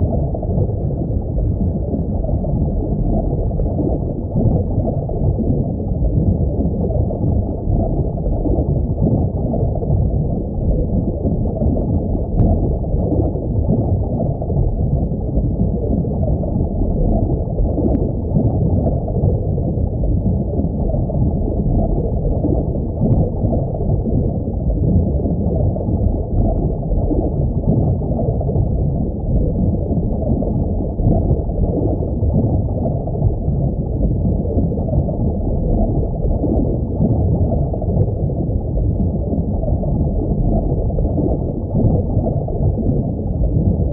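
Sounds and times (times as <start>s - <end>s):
aquarium water rumbling and gurgling: 0.0s - 43.9s.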